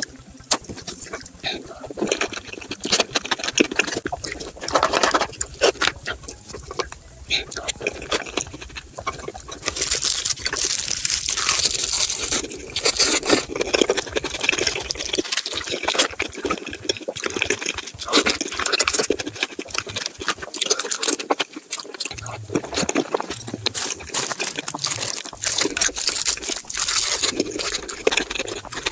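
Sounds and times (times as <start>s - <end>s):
crab shell crunching in mouth: 0.0s - 28.9s
wet chewing: 0.0s - 28.9s.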